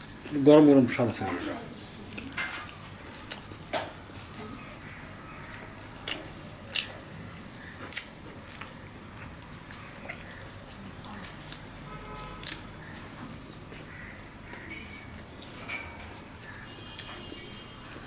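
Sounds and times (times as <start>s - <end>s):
crisp flatbread crackling: 0.0s - 15.6s
chewing: 2.0s - 18.0s.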